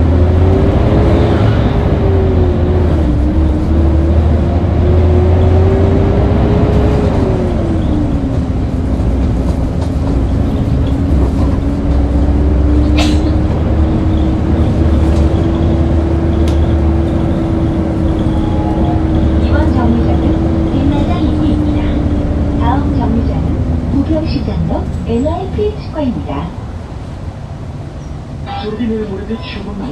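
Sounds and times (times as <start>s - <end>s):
bus engine rumbling with whine: 0.0s - 29.9s.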